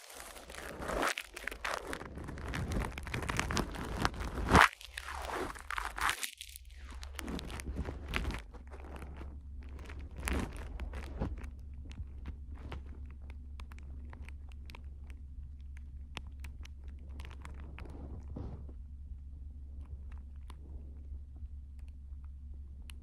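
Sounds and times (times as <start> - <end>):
small clicks: 0.0 - 18.4, 19.7 - 23.0
close rustling and crackling: 0.0 - 23.0
steady low hum: 0.0 - 23.0.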